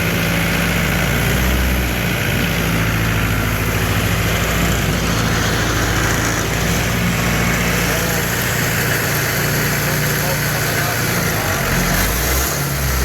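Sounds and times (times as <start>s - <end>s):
wood chipper engine running: 0.0s - 13.0s.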